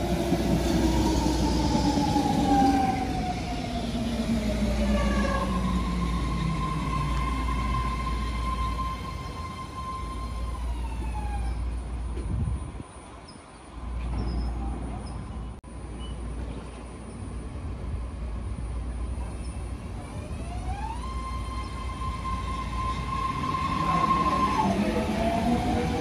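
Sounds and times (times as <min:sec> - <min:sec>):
electric train propulsion whine: 0:00.0 - 0:14.0, 0:15.8 - 0:26.0
train rumble: 0:00.0 - 0:26.0.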